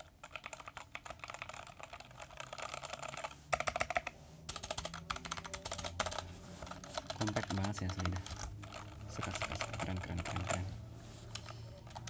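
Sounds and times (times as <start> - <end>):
fast typing on mechanical keyboard: 0.0 - 10.7, 11.3 - 12.0.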